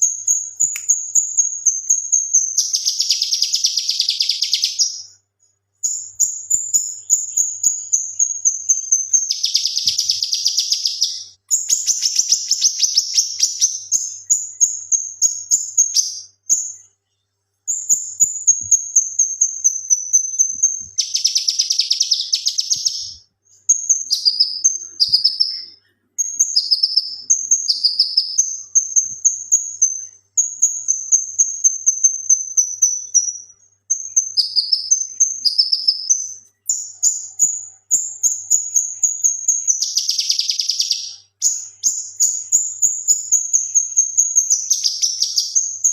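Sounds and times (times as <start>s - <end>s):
bird singing: 0.0s - 45.9s.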